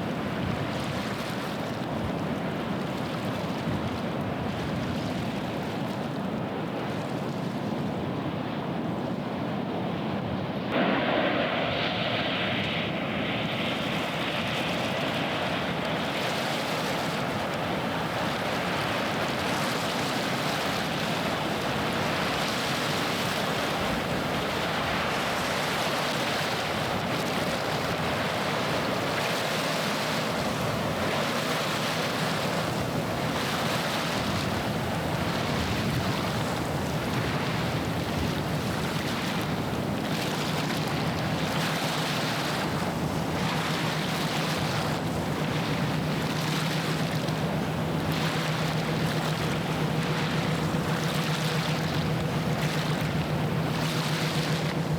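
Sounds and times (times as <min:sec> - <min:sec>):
waves washing on shore: 0:00.0 - 0:54.9
wind: 0:00.0 - 0:54.9
ship engine drone: 0:09.9 - 0:54.9.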